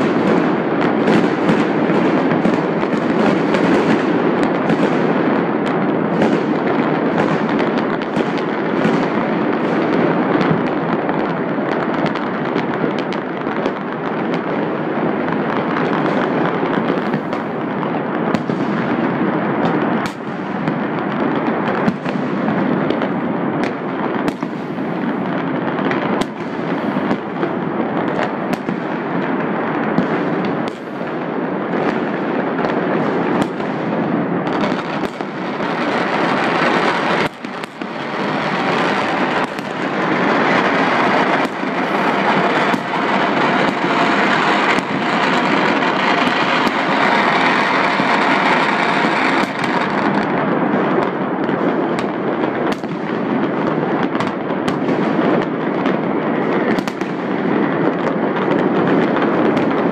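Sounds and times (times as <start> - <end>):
firecracker bangs: 0.0 - 59.9
fireworks crackling: 0.0 - 59.9.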